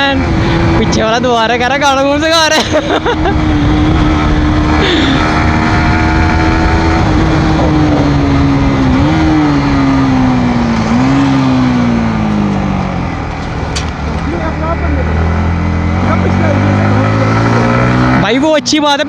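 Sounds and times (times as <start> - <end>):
motorcycle engine while riding: 0.0 - 19.0
wind and road noise: 0.0 - 19.0.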